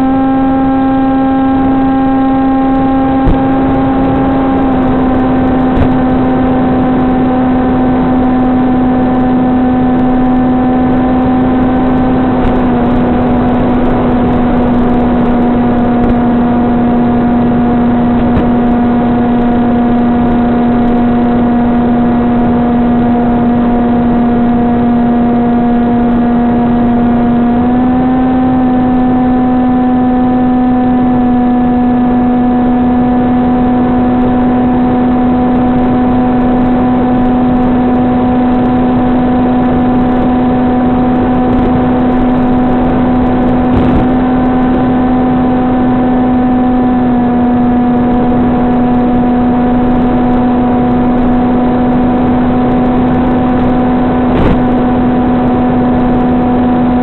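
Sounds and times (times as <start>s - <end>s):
electric motor and propeller droning: 0.0s - 57.0s.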